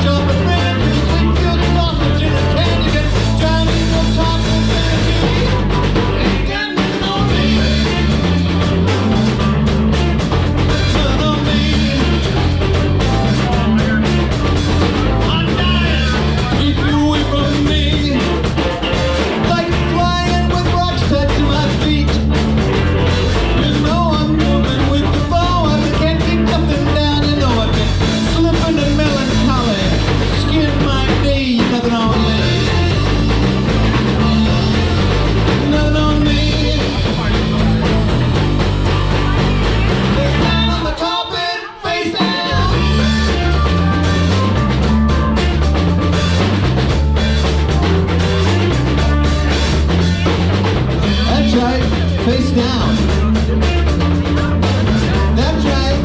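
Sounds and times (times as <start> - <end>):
loud rock music with singing: 0.0 - 56.0.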